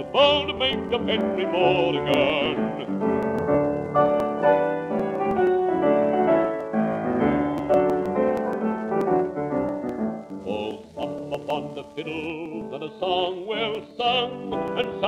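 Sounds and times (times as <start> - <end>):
old record piano music: 0.0 - 15.0
record surface clicks: 0.0 - 15.0.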